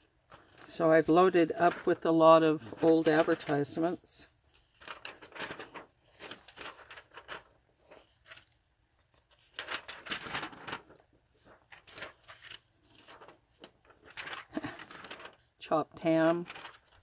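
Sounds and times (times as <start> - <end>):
paper pages rustling: 0.2 - 17.0.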